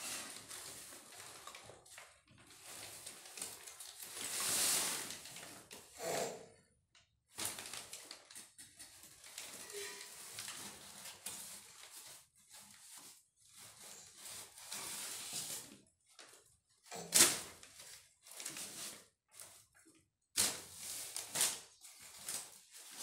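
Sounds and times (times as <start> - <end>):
paper bag rustling and crinkling: 0.0 - 5.8, 7.3 - 19.6, 20.4 - 23.0.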